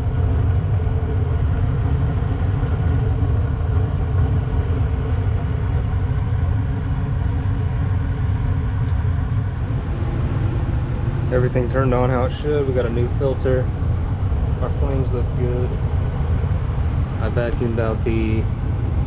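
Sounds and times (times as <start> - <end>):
gas furnace rumbling: 0.0 - 19.0.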